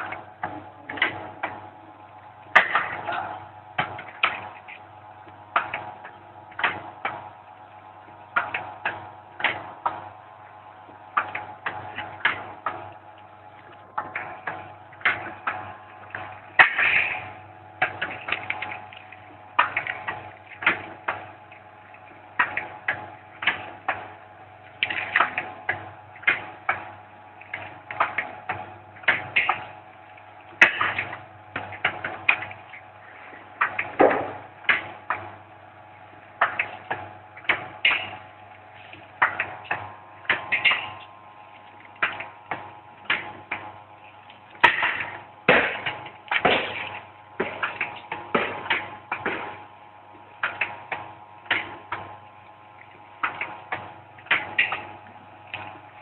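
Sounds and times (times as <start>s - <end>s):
machine hum: 0.0s - 56.0s.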